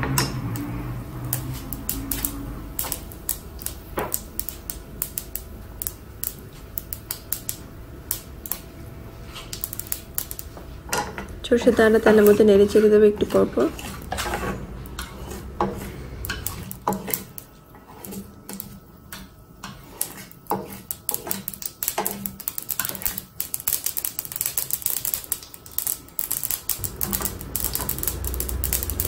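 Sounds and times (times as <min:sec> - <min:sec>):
seeds crackling in hot oil: 0:00.0 - 0:29.0.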